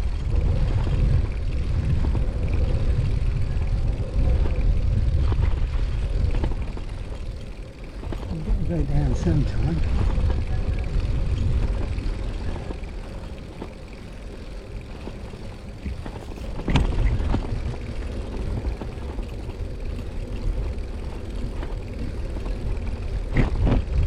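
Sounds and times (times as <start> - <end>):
bicycle rumbling: 0.0 - 24.0
wind on microphone: 0.0 - 24.0.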